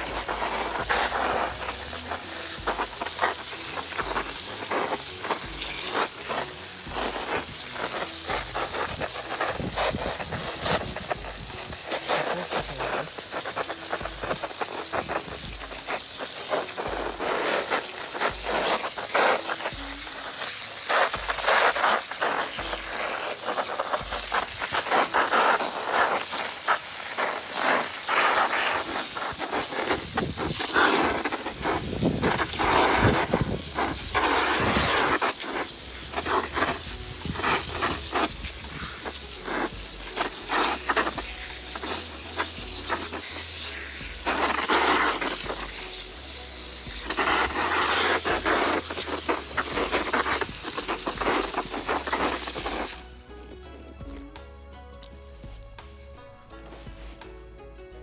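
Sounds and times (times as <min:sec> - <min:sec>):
food sizzling in a pan: 0:00.0 - 0:53.3.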